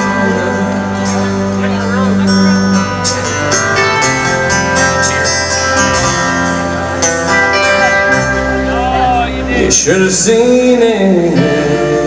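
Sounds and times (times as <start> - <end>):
country guitar playing: 0.0 - 12.0.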